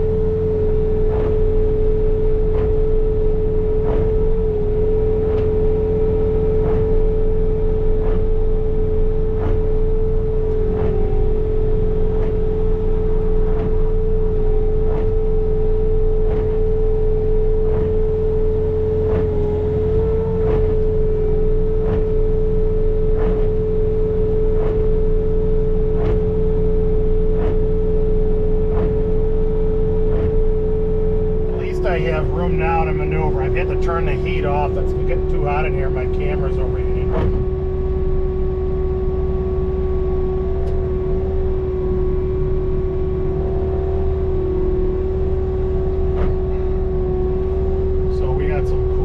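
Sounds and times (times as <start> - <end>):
diesel engine drone: 0.0 - 49.0
high whine: 0.0 - 49.0.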